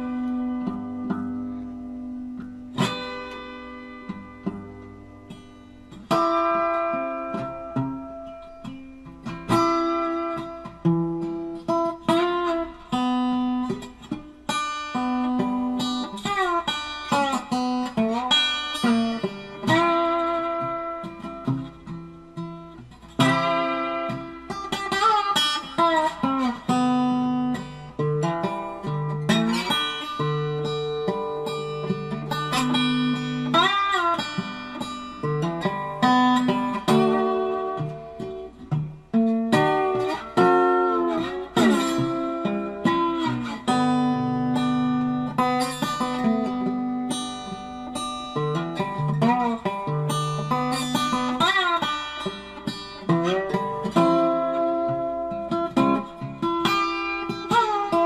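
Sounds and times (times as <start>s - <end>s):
guitar playing picked notes: 0.0s - 58.0s.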